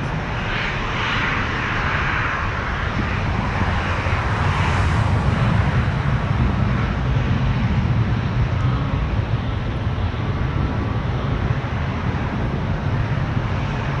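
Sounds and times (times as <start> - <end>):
distant airliner engines roaring: 0.0 - 14.0.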